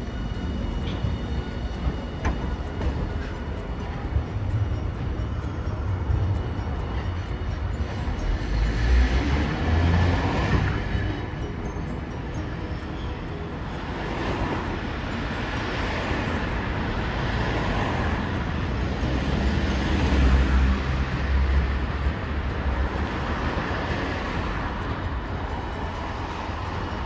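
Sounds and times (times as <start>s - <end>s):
street traffic noise: 0.0s - 27.0s
tram rumble and hum: 0.0s - 27.0s.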